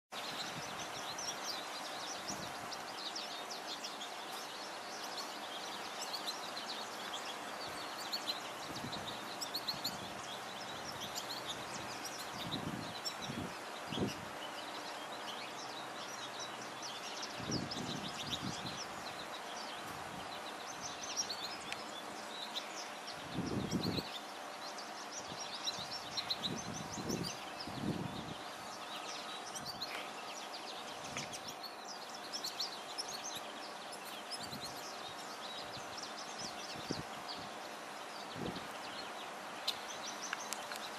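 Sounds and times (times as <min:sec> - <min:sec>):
background hiss: 0:00.1 - 0:40.9
bird chirps and tweets: 0:00.1 - 0:40.9
faint constant hum: 0:00.2 - 0:40.9.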